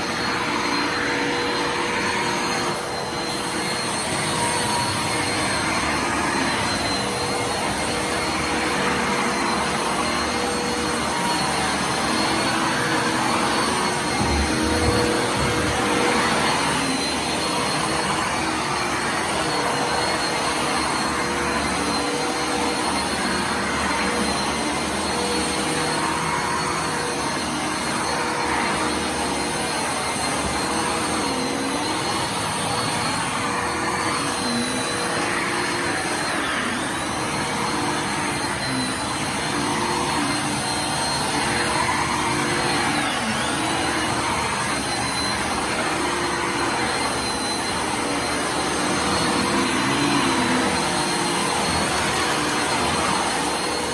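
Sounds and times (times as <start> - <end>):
vacuum cleaner motor whine: 0.0 - 53.9.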